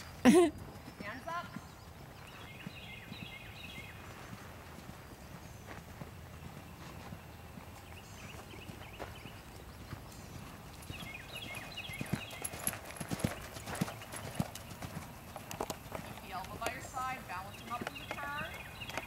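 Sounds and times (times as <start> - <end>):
hoofbeats on sand: 0.8 - 19.0.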